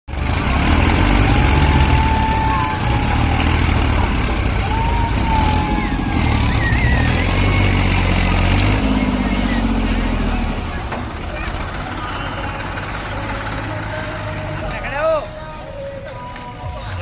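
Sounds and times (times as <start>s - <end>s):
heavy diesel engine running: 0.1s - 17.0s.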